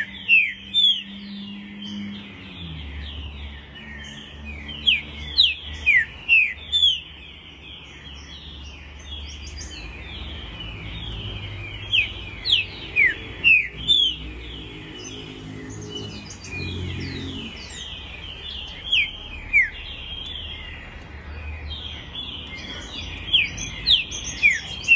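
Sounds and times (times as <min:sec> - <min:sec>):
faint bird chirping: 0:00.0 - 0:24.9.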